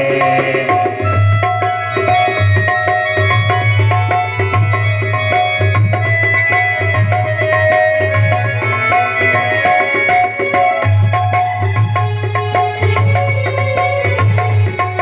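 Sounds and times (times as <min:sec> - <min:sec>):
tabla rhythm: 0:00.0 - 0:15.0
melody of held notes: 0:00.1 - 0:15.0.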